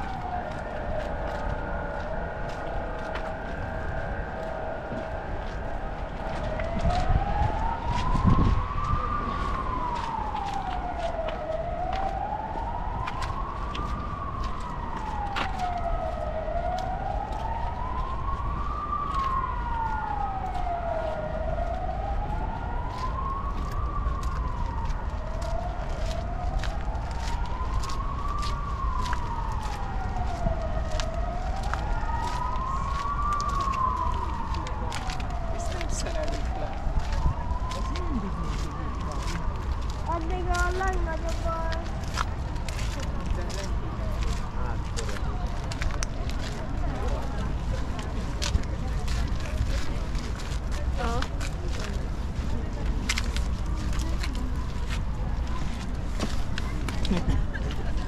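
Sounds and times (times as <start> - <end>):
low rumble of city noise: 0.0 - 58.0
siren wailing: 0.0 - 58.0.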